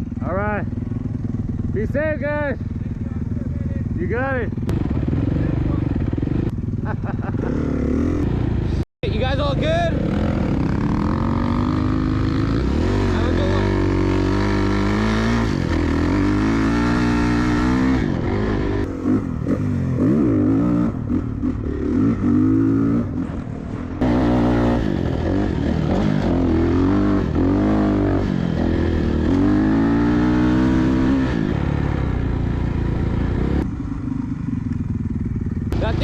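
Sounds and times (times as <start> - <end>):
dirt bike engine revving: 0.2 - 23.4, 24.0 - 36.0.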